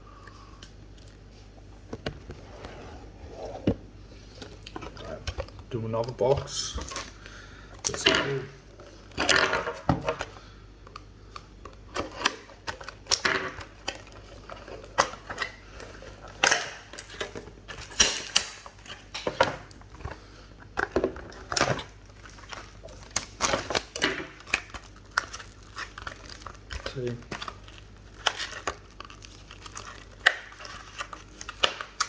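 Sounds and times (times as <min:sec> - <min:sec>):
plastic wrap crinkling: 0:04.1 - 0:32.0.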